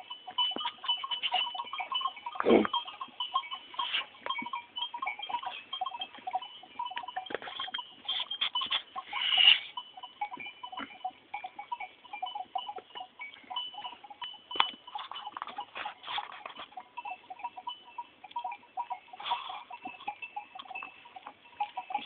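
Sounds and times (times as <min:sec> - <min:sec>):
goat bells clinking: 0:00.0 - 0:22.0.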